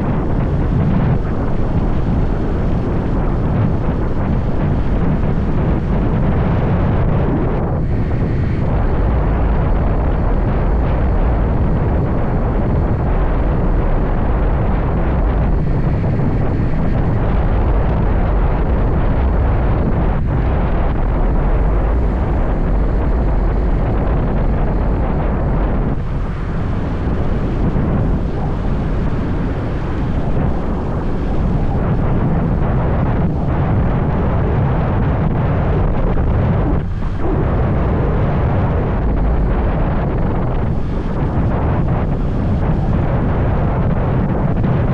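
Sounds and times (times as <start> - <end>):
road noise: 0.0 - 44.9
wind buffeting microphone: 0.0 - 44.9.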